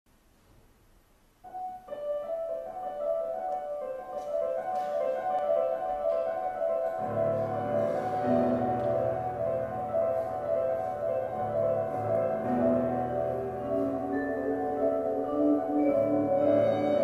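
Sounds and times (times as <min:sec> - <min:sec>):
background piano music: 0:01.4 - 0:17.0.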